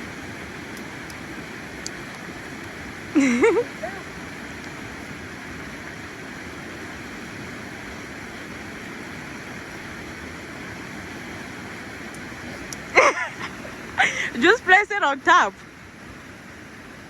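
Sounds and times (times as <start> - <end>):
waterfall and river rushing: 0.0 - 17.0.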